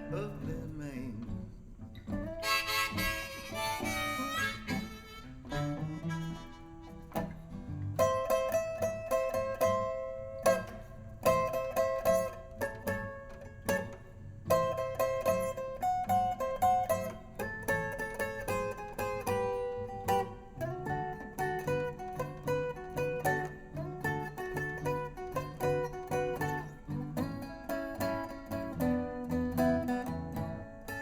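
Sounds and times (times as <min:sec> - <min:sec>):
blues guitar picking notes: 0:00.0 - 0:31.0.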